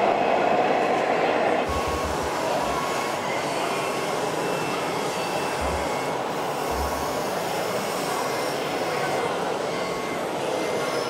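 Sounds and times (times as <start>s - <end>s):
busy indoor hall din: 0.0s - 11.0s
model machines at work: 1.6s - 11.0s.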